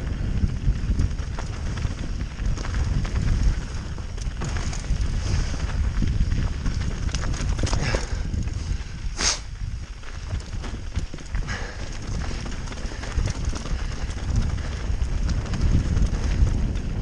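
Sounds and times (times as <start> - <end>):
bike rattling: 0.0 - 17.0
bike tyres crunching over stones: 0.0 - 17.0.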